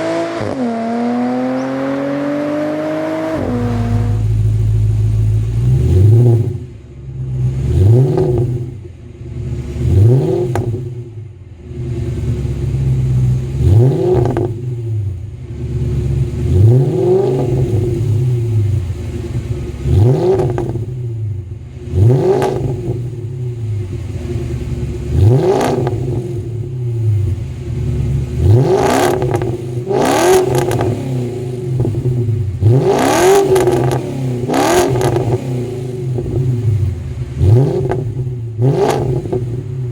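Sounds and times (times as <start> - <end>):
car engine revving at idle: 0.0 - 39.9.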